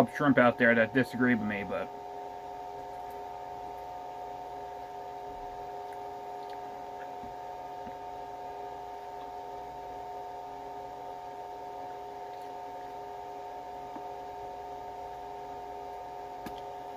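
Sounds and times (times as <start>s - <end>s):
electrical hum: 0.0s - 16.9s.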